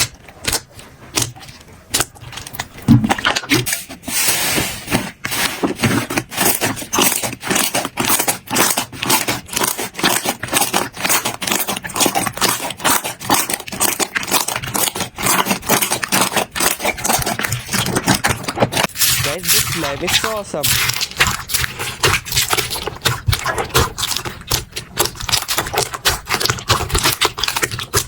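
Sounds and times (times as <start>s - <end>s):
slime crackling and popping: 0.0s - 4.1s, 4.9s - 28.0s.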